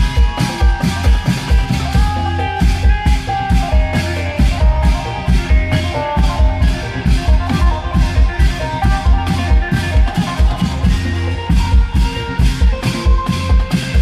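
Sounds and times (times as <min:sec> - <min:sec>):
amplified melody: 0:00.0 - 0:14.0.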